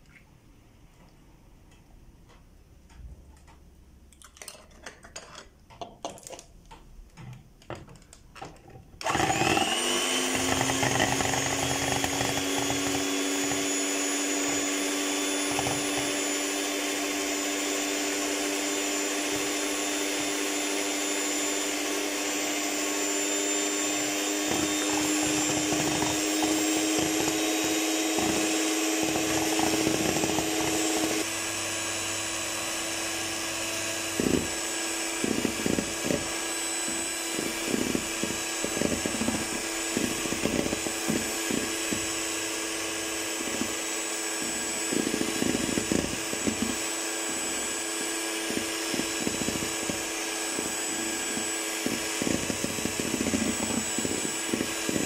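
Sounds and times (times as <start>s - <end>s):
electric hand mixer whirring: 9.0s - 55.0s.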